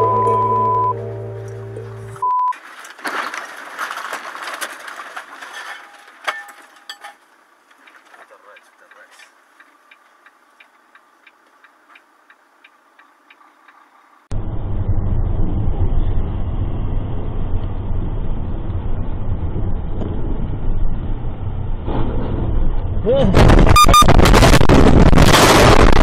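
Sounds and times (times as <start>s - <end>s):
engine and road noise rumble: 0.0s - 26.0s.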